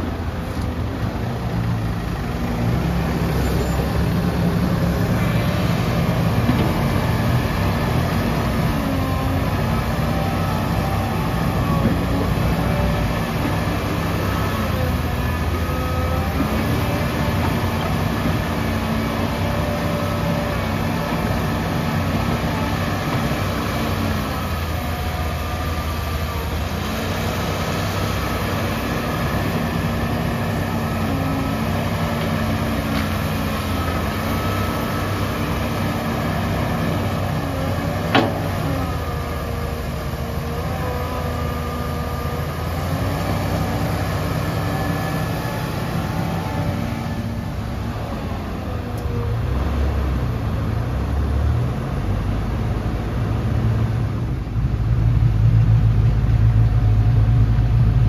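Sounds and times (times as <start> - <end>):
excavator diesel engine: 0.0 - 58.0.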